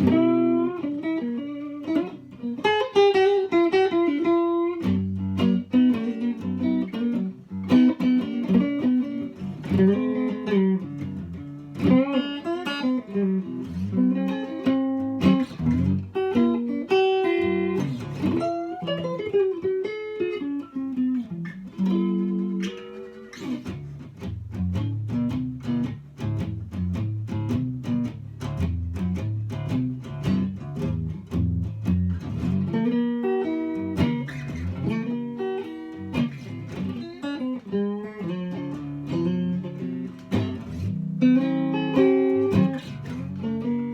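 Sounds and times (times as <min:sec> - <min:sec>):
guitar playing melody and chords: 0:00.0 - 0:43.9.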